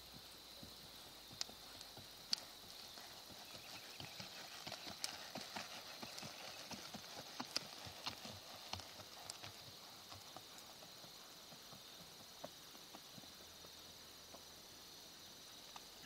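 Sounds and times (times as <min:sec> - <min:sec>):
hoofbeats on soft sand: 0:00.0 - 0:14.5.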